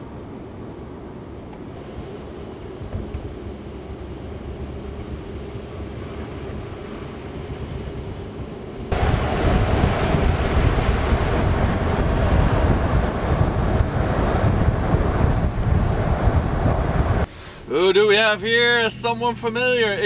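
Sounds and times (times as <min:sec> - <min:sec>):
muffled road rumble inside car: 0:00.0 - 0:17.3
wind rushing over microphone: 0:00.0 - 0:17.3
car road and running noise: 0:00.0 - 0:20.0.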